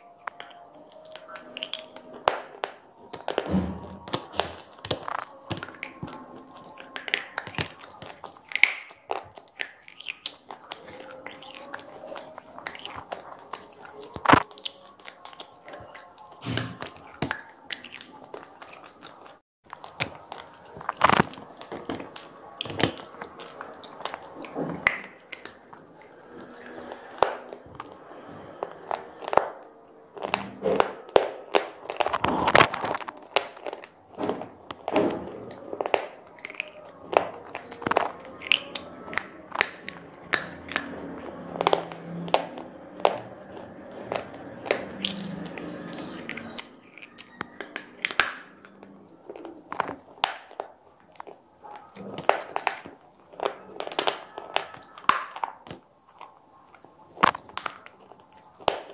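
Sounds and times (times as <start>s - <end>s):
slate crunching between teeth: 0.0s - 58.9s.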